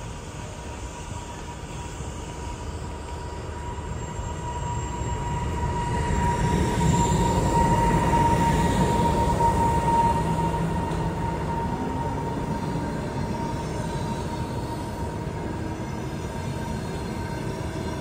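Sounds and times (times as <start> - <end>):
train carriages rolling on track: 0.0 - 18.0
locomotive rumble: 0.1 - 18.0
high wheel squeal: 1.6 - 18.0.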